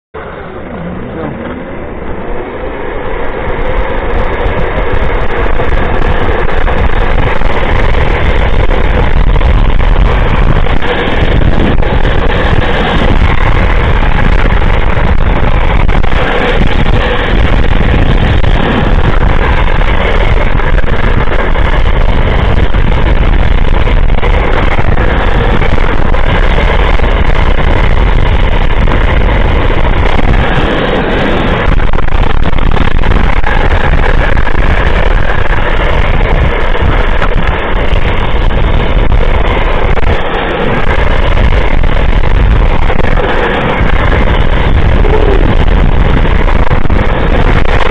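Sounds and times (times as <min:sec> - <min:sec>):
wheels rolling on asphalt: 0:00.1 - 0:47.9
wind buffeting microphone: 0:00.1 - 0:47.9.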